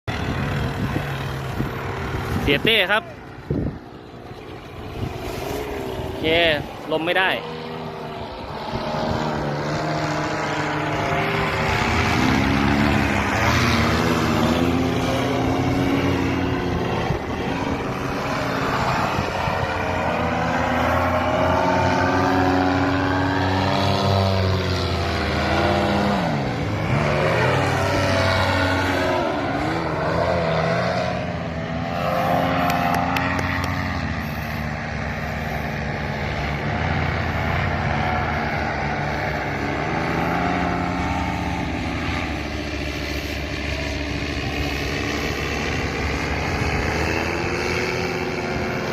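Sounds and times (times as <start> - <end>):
propeller aircraft engine drone: 0.0 - 48.9.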